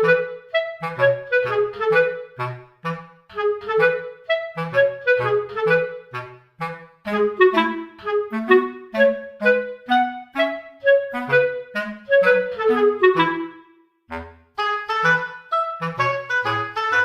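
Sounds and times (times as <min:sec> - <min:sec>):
bouncy reedy melody with bass: 0:00.0 - 0:17.0.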